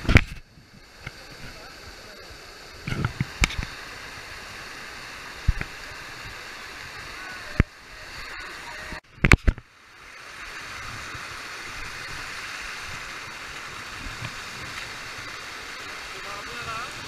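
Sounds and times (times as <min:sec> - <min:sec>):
water rushing over rock: 0:00.0 - 0:17.0.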